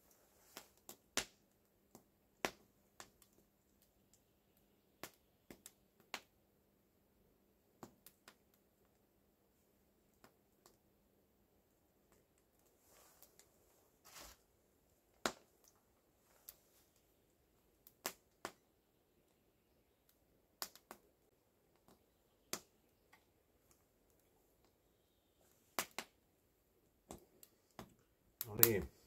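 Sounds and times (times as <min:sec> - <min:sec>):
wood fire popping: 0:00.0 - 0:06.7, 0:07.4 - 0:29.0.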